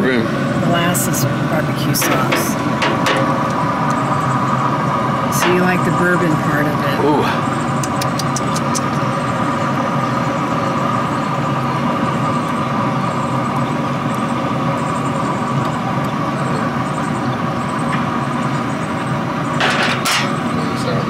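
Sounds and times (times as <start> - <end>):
steady machine drone: 0.0 - 21.0.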